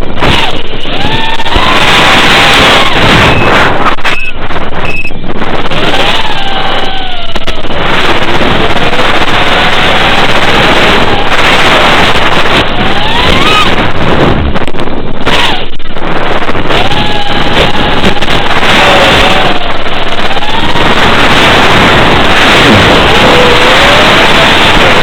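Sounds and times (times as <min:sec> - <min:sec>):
quadcopter motors whining: 0:00.0 - 0:25.0
wind noise on microphone: 0:00.0 - 0:25.0.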